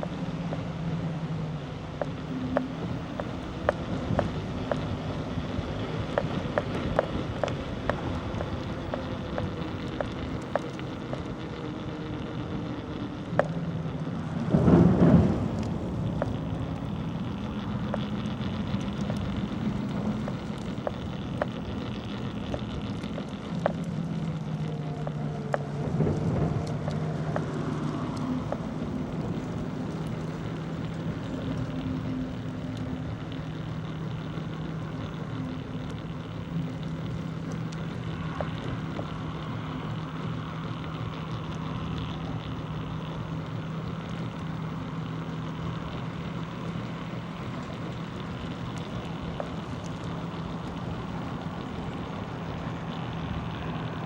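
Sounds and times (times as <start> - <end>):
vehicle engine humming: 0.0 - 54.0
wind and road noise: 0.0 - 54.0.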